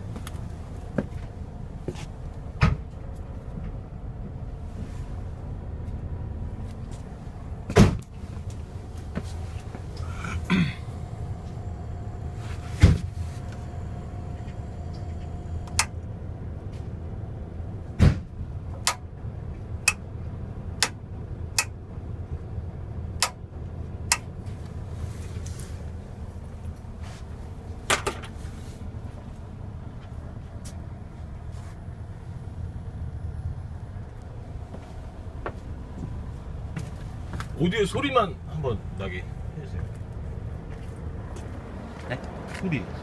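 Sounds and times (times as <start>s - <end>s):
coach engine idling: 5.2s - 43.0s.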